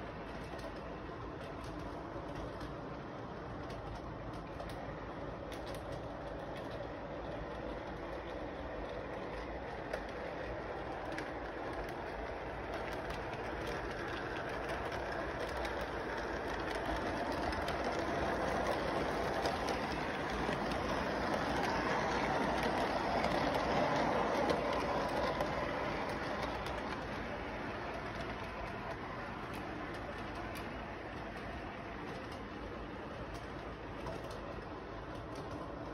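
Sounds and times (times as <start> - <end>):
model train rumbling on track: 0.0 - 35.9.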